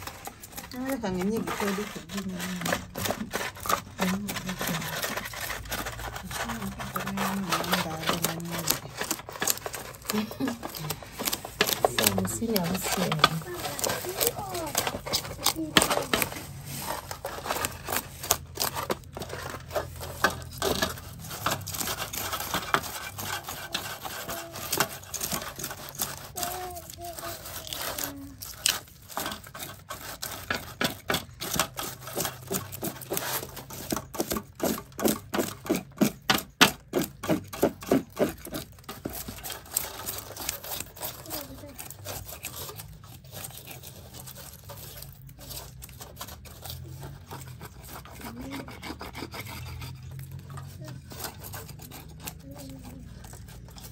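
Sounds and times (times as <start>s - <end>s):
knife scraping fish scales: 0.0s - 53.9s.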